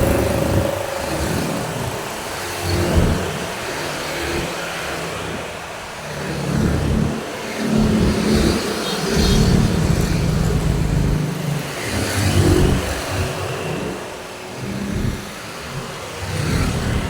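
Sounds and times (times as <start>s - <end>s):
cars and motorbikes passing: 0.0s - 17.0s.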